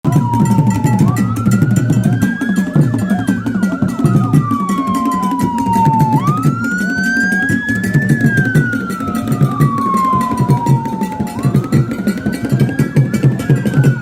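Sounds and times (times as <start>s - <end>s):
siren wailing: 0.0s - 14.0s
music with pulsing low beat: 0.1s - 14.0s.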